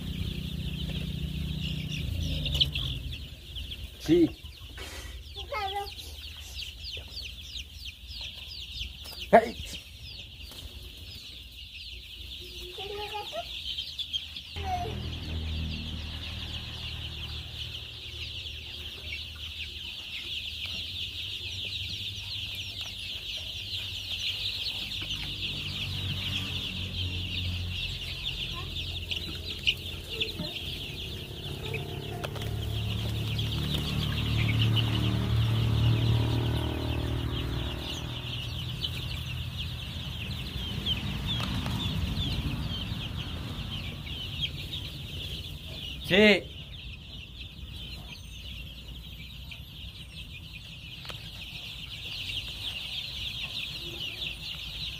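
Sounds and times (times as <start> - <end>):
chicks peeping: 0.0 - 54.9.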